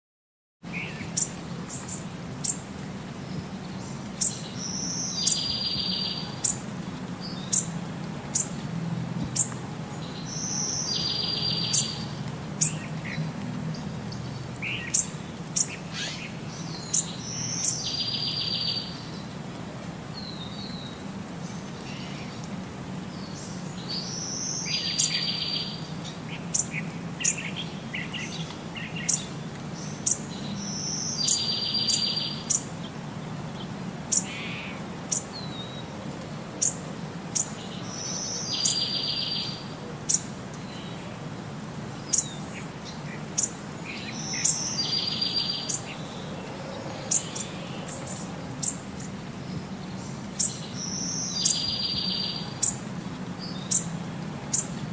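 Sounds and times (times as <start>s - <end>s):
small songbirds chirping: 0.6s - 54.9s.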